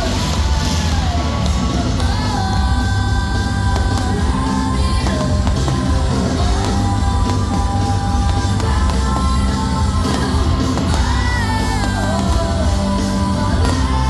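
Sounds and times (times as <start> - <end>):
loud rock music: 0.0 - 14.0
person singing long notes: 0.0 - 14.0.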